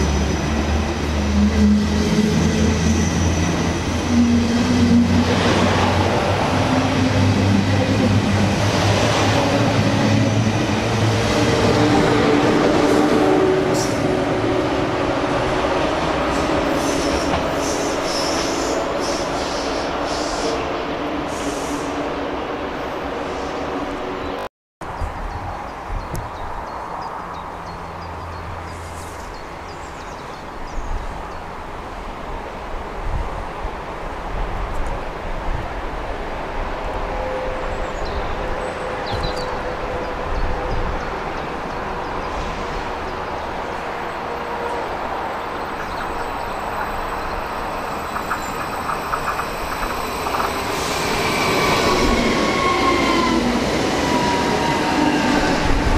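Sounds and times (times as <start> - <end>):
high-speed train passing: 0.0 - 55.9
outdoor background noise: 0.0 - 55.9.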